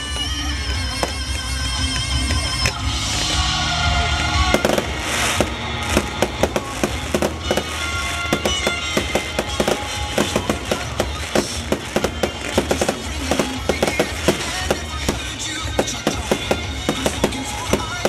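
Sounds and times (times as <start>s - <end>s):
music playing: 0.0s - 18.0s
fireworks cracks and bangs: 2.6s - 18.0s.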